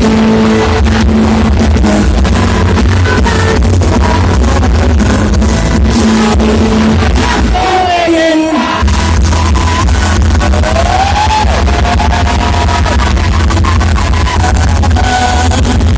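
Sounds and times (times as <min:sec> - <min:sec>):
loud dance music: 0:00.0 - 0:15.9.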